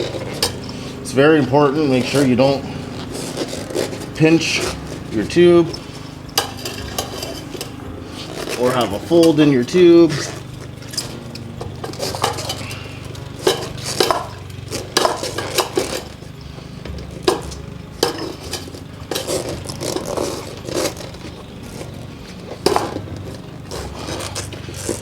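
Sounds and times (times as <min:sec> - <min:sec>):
knocks and clinks of wheel rim: 0:00.0 - 0:25.0
steady low hum: 0:00.0 - 0:25.0.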